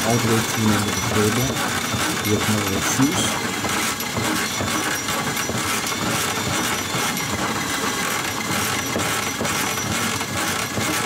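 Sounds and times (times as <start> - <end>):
drain snake cable rattling: 0.0 - 11.0.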